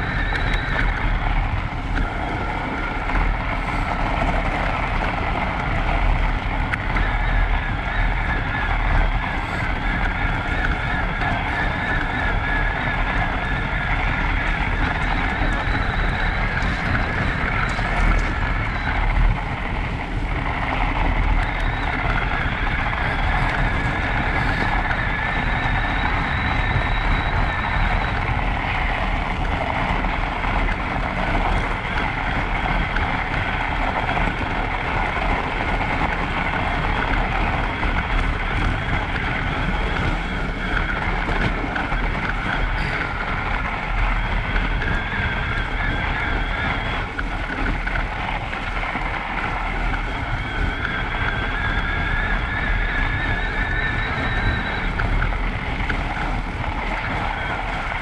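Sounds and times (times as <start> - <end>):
bike drivetrain noise: 0.0 - 58.0
high motor whine: 0.0 - 58.0
tyres rushing on snow: 0.0 - 58.0.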